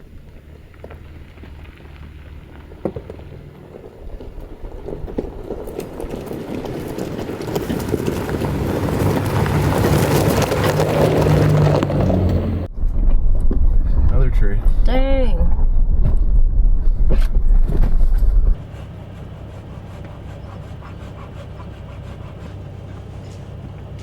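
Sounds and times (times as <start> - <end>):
pickup engine hum: 0.0 - 12.8, 17.5 - 24.0
tyres on dirt trail: 0.0 - 14.8, 15.5 - 24.0.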